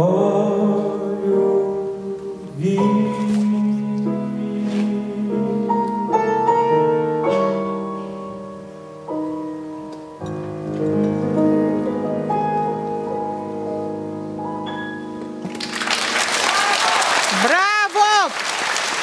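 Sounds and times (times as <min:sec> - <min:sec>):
grand piano chords: 0:00.0 - 0:16.4.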